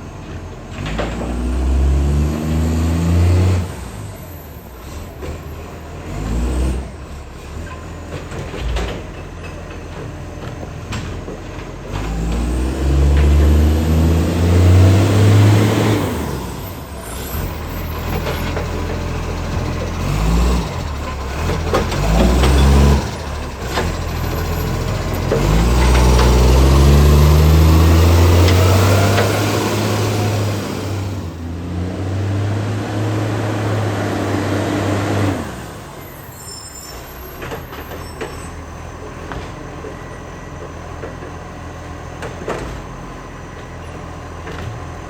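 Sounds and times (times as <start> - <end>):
garbage truck diesel engine revving: 0.0 - 45.0.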